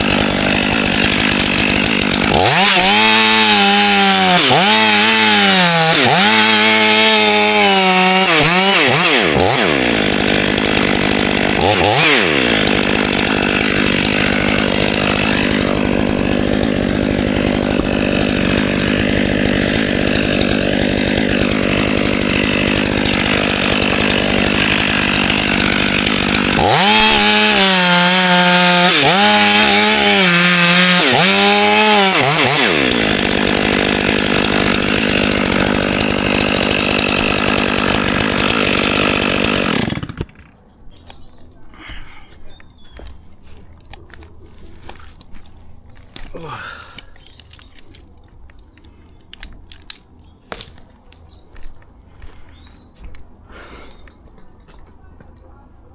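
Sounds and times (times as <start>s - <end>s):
chainsaw revving and cutting wood: 0.0s - 54.2s.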